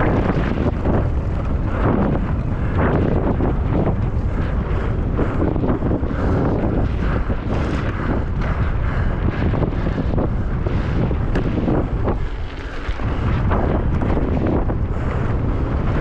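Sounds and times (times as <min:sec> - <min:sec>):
bike clattering over rough ground: 0:00.0 - 0:16.0
wind buffeting microphone: 0:00.0 - 0:16.0.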